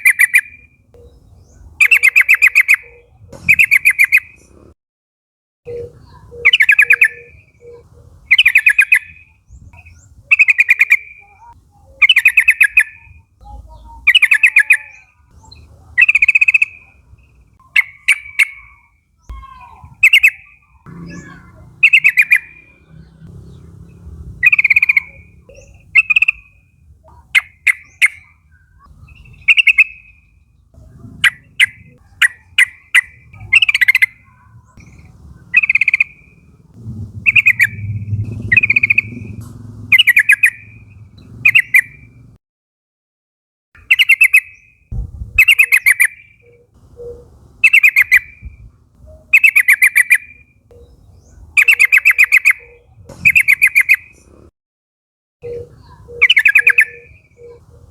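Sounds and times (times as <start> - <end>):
birds sharp clicking notes: 0.0 - 4.7, 9.8 - 42.4, 45.4 - 54.4
birds buzzy chattering: 0.0 - 4.8, 5.7 - 42.4, 43.8 - 54.5, 55.4 - 57.9.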